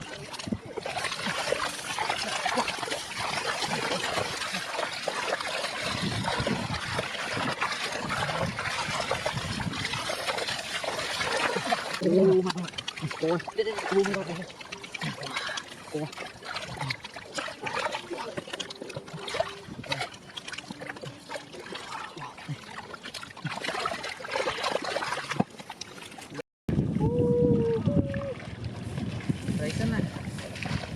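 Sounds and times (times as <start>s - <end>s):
water splashing and trickling: 0.0s - 30.9s.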